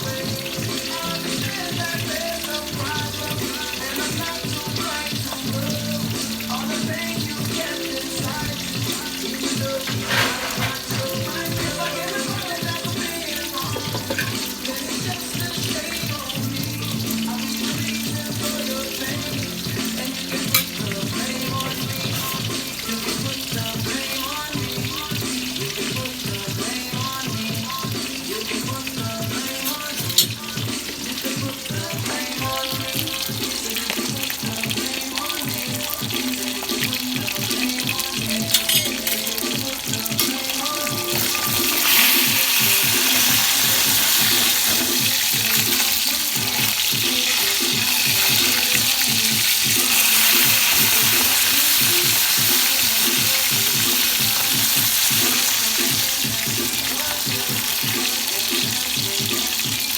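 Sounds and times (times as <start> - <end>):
background music with steady beat: 0.0 - 59.9
food frying in a pan: 0.0 - 59.9
tap water running: 0.0 - 59.9.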